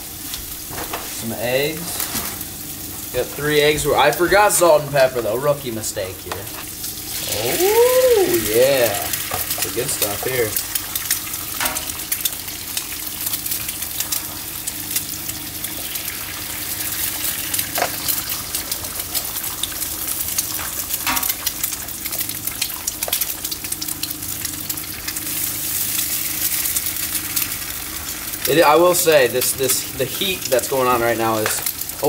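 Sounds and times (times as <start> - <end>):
bacon and eggs sizzling: 0.0 - 32.0.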